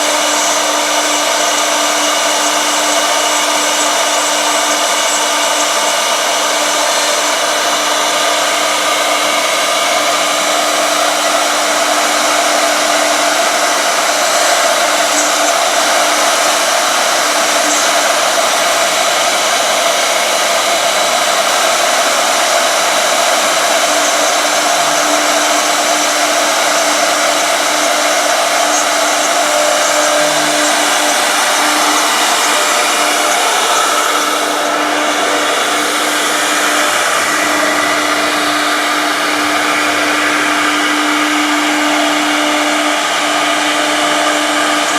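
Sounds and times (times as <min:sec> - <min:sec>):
router machine high whine: 0:00.0 - 0:44.9.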